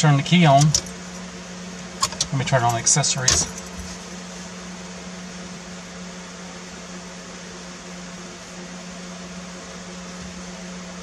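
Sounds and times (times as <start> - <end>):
machine hum with fan-like hiss: 0.0 - 11.0.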